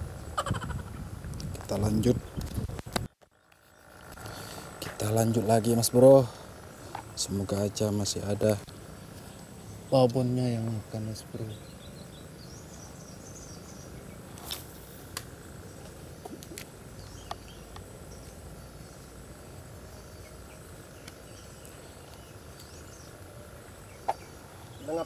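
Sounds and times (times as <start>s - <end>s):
high insect drone: 0.0s - 25.0s
faint bird chirps: 3.2s - 25.0s.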